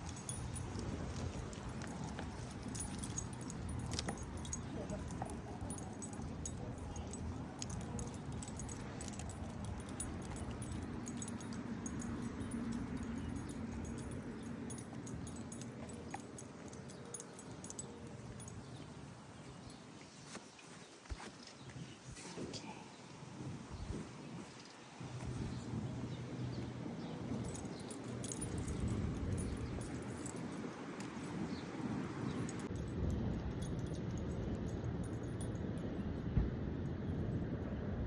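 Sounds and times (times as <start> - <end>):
dog collar tags jingling: 0.0 - 19.9, 26.4 - 37.4.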